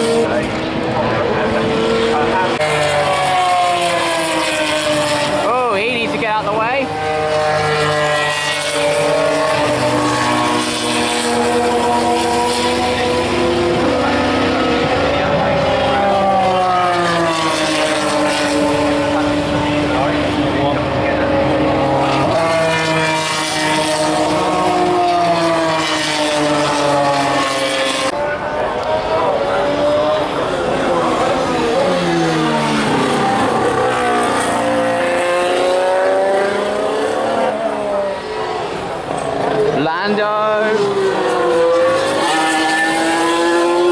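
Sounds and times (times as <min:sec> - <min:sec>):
race car engines passing: 0:00.0 - 0:43.9.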